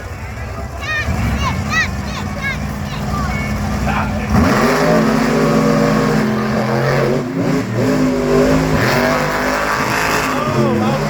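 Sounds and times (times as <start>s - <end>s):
monster truck engines racing: 0.0s - 11.0s.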